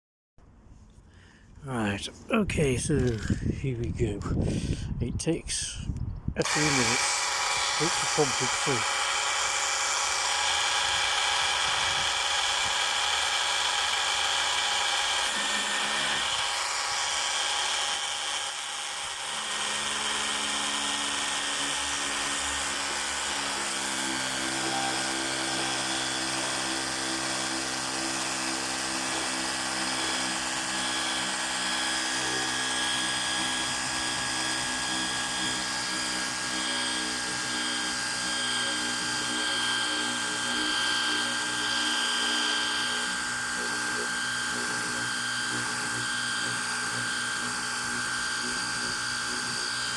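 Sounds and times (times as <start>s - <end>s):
pressure washer whining: 6.4s - 49.9s.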